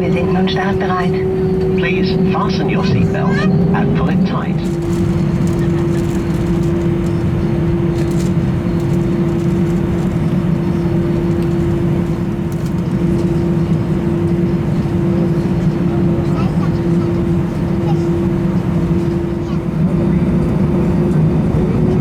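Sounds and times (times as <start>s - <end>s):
airplane cabin engine rumble: 0.0s - 22.0s
constant hum: 0.0s - 22.0s.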